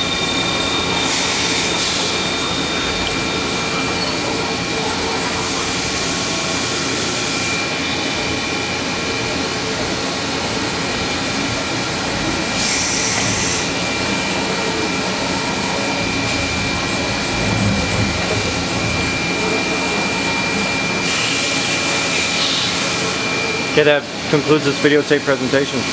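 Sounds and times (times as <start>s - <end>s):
machine whirring with high whine: 0.0s - 25.9s.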